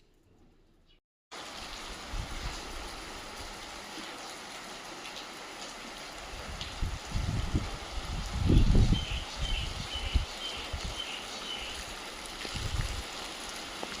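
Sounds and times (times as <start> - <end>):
rain hissing: 1.3 - 14.0.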